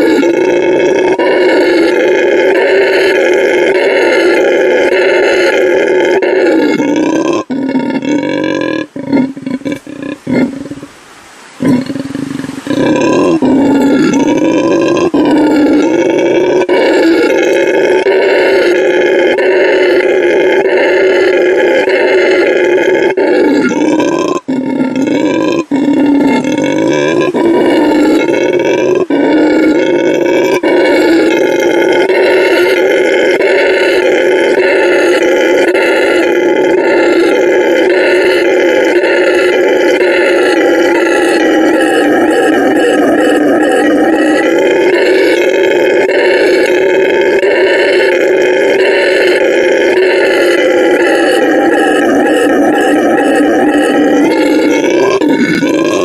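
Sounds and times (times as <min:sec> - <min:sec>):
howler monkeys roaring: 0:00.0 - 0:11.0, 0:11.6 - 0:56.0.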